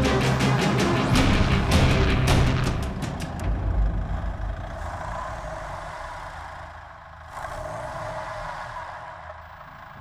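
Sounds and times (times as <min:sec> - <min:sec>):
engine low rumble: 0:00.0 - 0:10.0.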